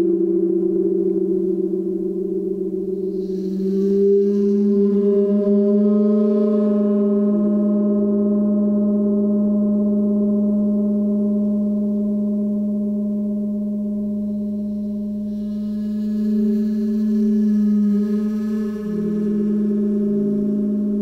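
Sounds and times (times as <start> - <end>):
gong sustained low tone: 0.0 - 21.0.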